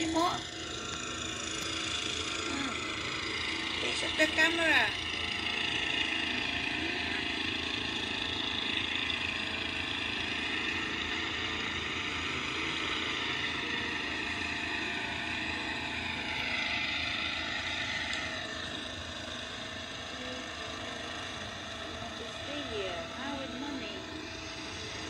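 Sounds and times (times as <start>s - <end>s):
ride-on lawn mower engine: 0.0s - 25.0s.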